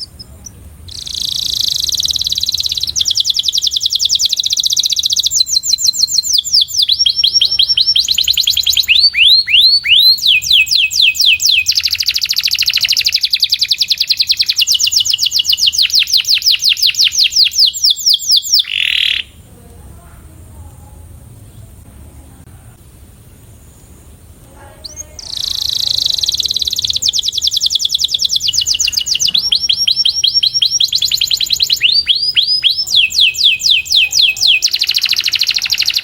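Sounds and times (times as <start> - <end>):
canary singing trills: 0.0 - 19.5, 24.6 - 36.0.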